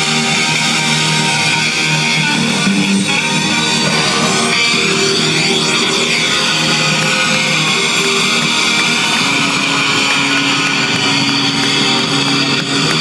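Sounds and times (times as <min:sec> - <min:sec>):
electric guitar held chords: 0:00.0 - 0:13.0
live rock band playing: 0:00.0 - 0:13.0.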